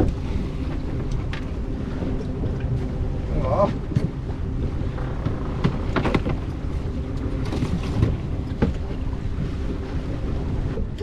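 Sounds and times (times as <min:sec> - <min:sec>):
boat engine running at low revs: 0:00.0 - 0:11.0
wind buffeting microphone: 0:00.0 - 0:11.0.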